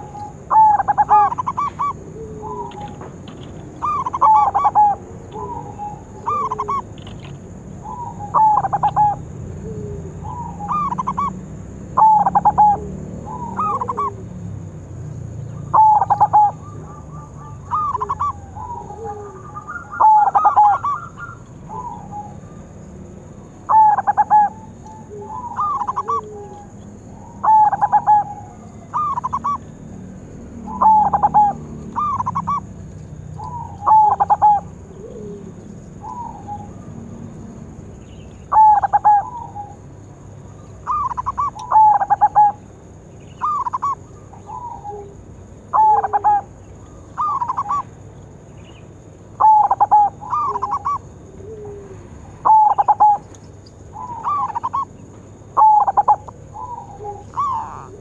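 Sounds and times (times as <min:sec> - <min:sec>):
dove cooing: 0:00.0 - 0:14.6, 0:15.5 - 0:37.5, 0:38.4 - 0:39.9, 0:40.8 - 0:48.0, 0:49.4 - 0:58.0.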